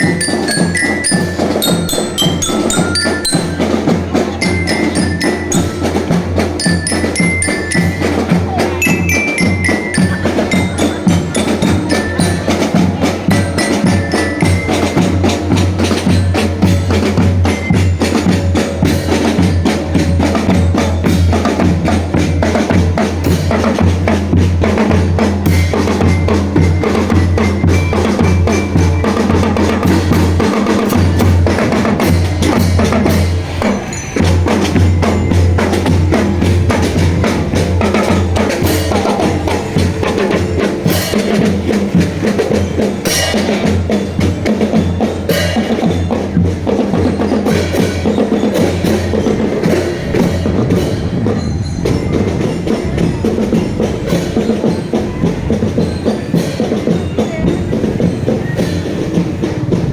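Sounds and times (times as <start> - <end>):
high melody notes: 0.0 - 59.6
marching drums: 0.0 - 59.9.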